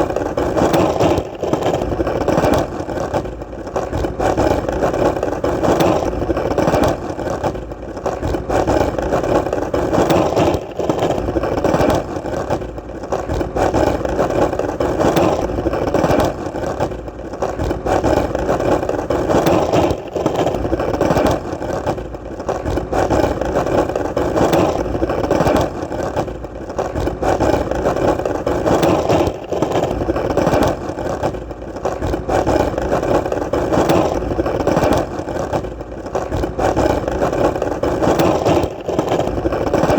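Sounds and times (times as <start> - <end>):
skateboard wheels rolling: 0.0 - 39.9.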